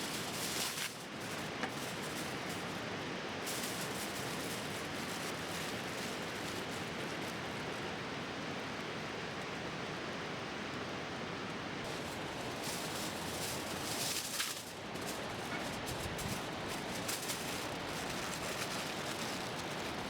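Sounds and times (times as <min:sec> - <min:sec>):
bonfire hissing and crackling: 0:00.0 - 0:10.4, 0:11.8 - 0:20.0.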